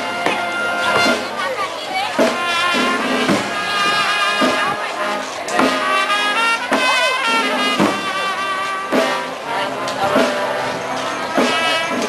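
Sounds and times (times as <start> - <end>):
brass band playing a slow march: 0.0 - 12.0.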